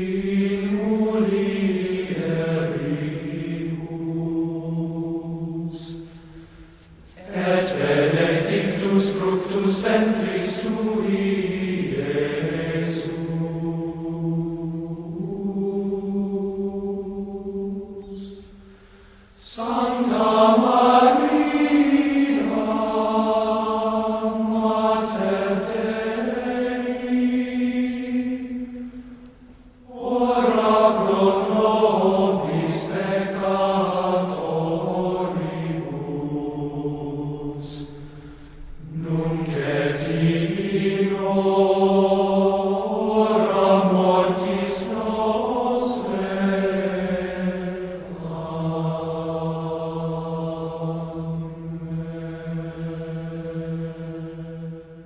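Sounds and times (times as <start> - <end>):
slow vocal chant: 0.0 - 55.0.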